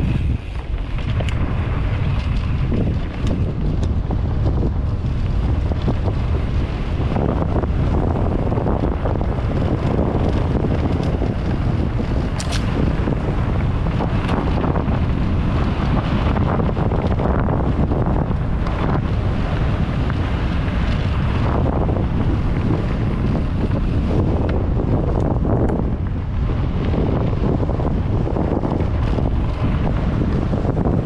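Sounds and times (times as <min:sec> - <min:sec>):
bike rattling over dirt trail: 0:00.0 - 0:31.0
wind buffeting microphone: 0:00.0 - 0:31.0.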